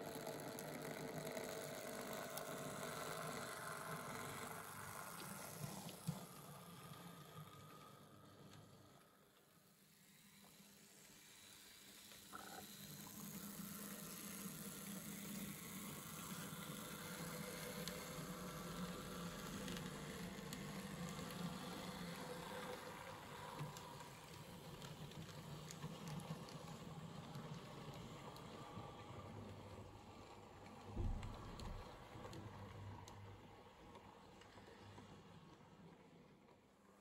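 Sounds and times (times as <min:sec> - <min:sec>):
model train motor humming: 0:00.0 - 0:36.2.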